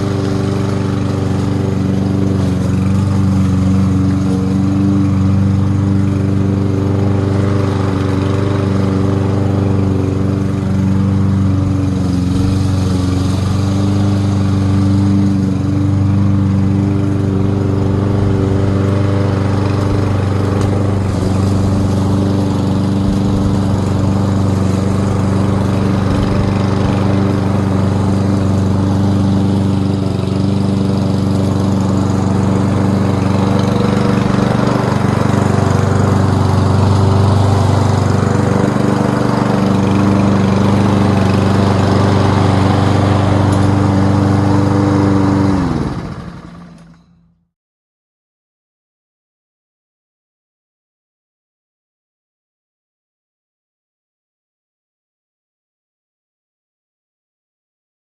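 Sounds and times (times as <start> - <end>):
lawn mower engine running: 0.0 - 47.4.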